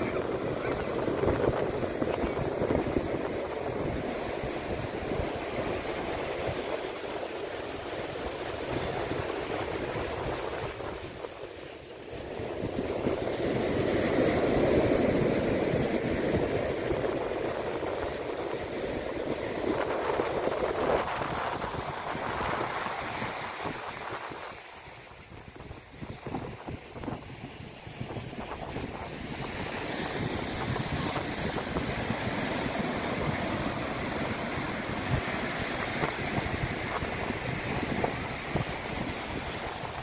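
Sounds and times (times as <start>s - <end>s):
ocean surf washing ashore: 0.0s - 40.0s.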